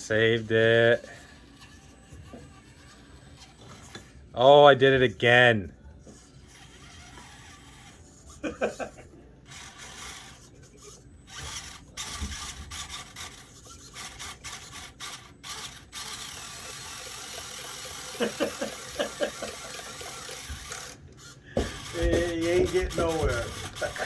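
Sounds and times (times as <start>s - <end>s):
small electric motor whirring: 0.0s - 4.3s, 6.0s - 24.0s.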